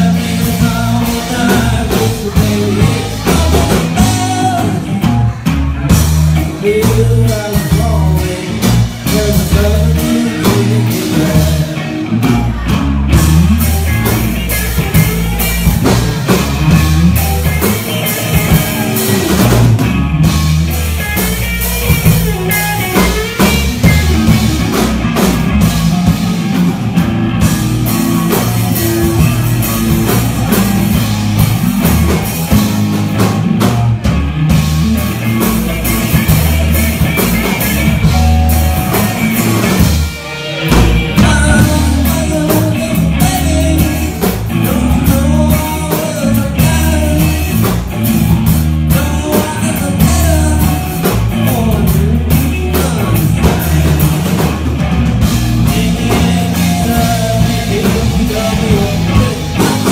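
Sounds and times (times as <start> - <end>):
rock band playing loud: 0.0 - 59.9.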